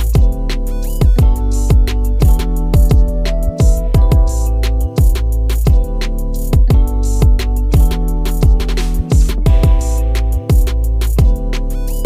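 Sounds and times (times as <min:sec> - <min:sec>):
held chords: 0:00.0 - 0:12.0.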